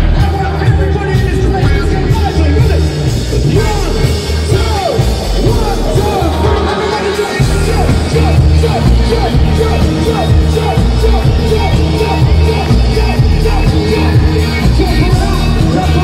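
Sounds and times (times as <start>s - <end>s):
crowd shouting and singing along: 0.0s - 16.0s
live band playing loud: 0.0s - 16.0s.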